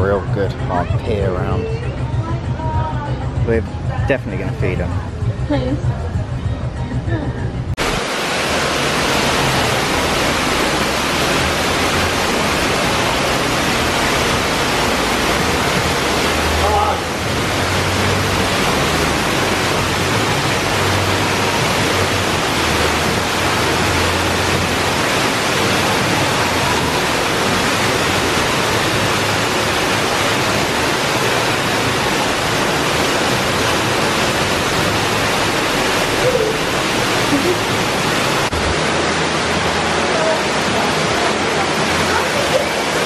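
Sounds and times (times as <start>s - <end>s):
waterfall rushing: 7.8s - 43.0s.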